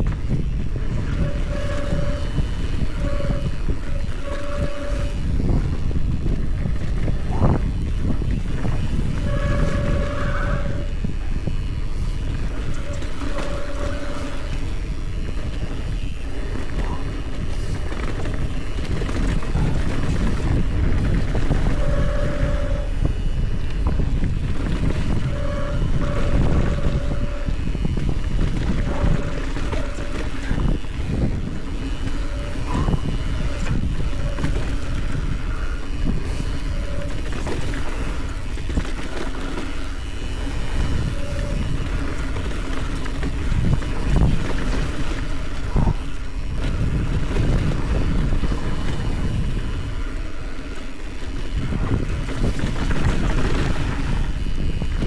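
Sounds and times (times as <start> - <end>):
bike tyres rumbling on dirt: 0.0 - 55.0
wind buffeting microphone: 0.0 - 55.0.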